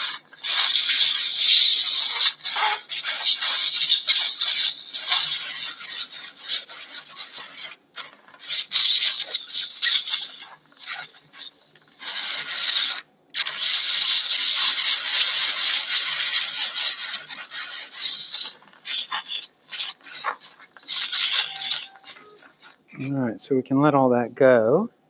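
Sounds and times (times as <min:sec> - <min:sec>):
surgical suction hissing and slurping: 0:00.0 - 0:23.0.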